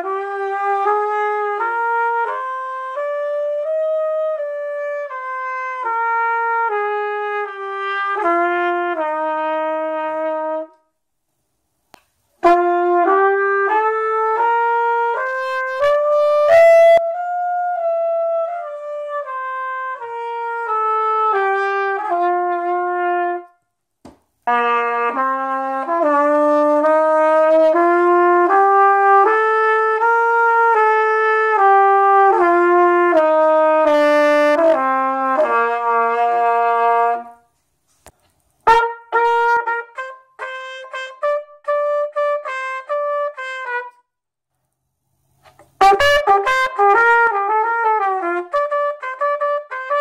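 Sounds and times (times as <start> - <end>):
solo brass instrument playing: 0.0 - 10.9, 12.4 - 23.6, 24.4 - 37.6, 38.6 - 44.1, 45.4 - 50.0.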